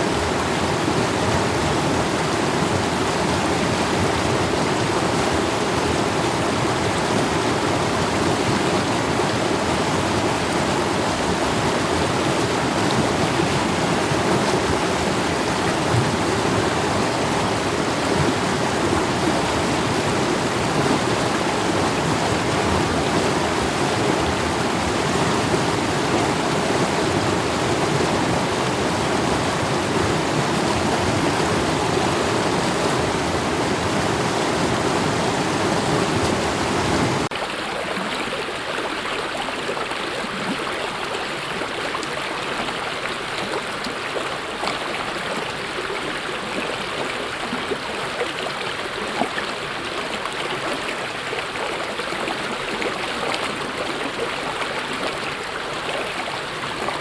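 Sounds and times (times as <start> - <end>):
stream water rushing: 0.0 - 57.0
water splashes and trickles: 0.0 - 57.0.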